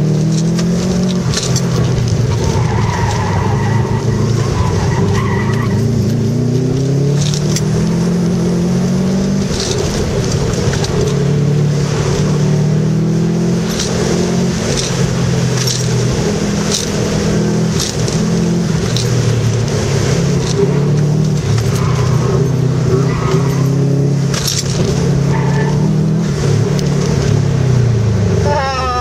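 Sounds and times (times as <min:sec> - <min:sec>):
car engine revving: 0:00.0 - 0:29.0
tyre and road noise: 0:00.0 - 0:29.0.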